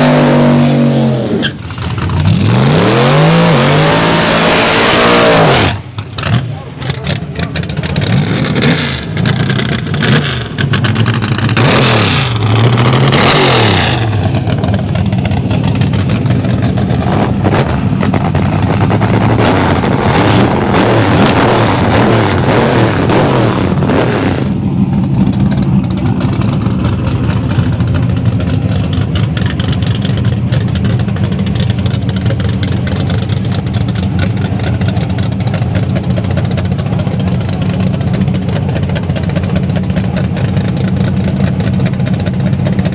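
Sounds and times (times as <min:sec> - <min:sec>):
drag racing engine revving: 0:00.0 - 0:42.9.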